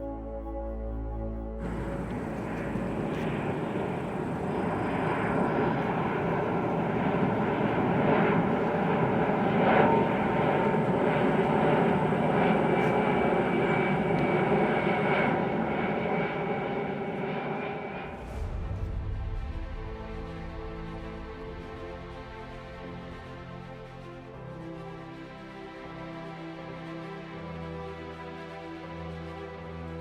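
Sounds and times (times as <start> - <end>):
airplane engines droning: 1.4 - 30.0.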